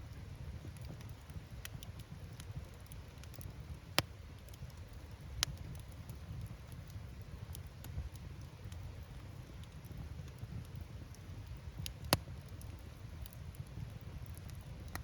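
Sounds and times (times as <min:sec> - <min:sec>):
campfire flames rumbling: 0:00.0 - 0:15.0
firewood crackling: 0:00.0 - 0:15.0.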